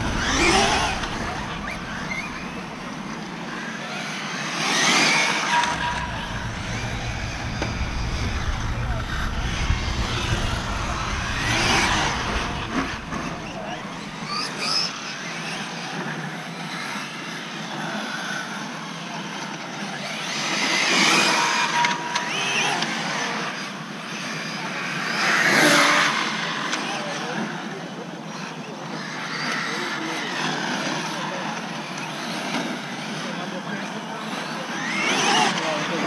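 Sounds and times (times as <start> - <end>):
rc car motor and tyres: 0.0 - 36.0.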